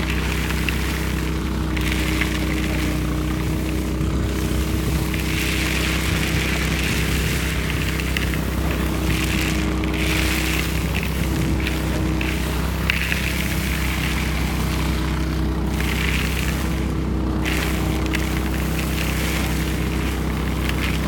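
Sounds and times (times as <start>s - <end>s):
small ticks of pellets: 0.0s - 21.0s
vacuum engine running: 0.0s - 21.0s.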